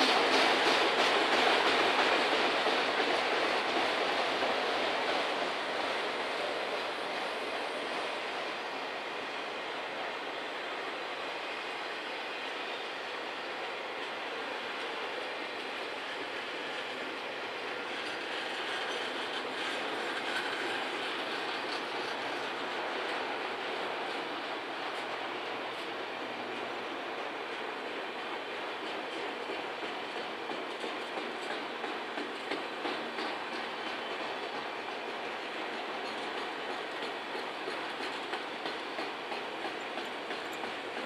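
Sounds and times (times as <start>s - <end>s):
steel wheels running on rails: 0.0s - 41.0s.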